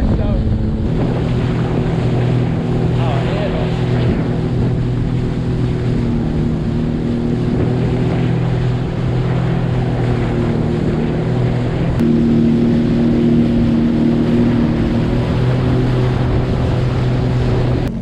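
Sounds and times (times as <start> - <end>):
jet ski engine drone: 0.0 - 18.0
rushing water: 0.0 - 18.0
wind on microphone: 0.0 - 18.0.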